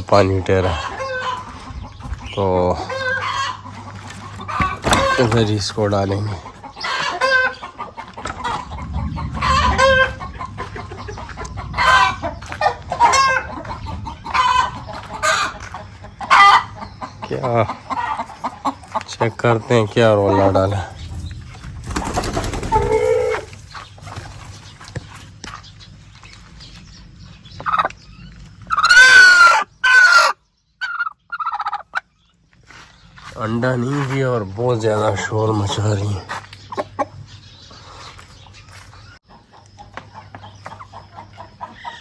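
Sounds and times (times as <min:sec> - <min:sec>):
chickens cackling: 0:00.0 - 0:42.0.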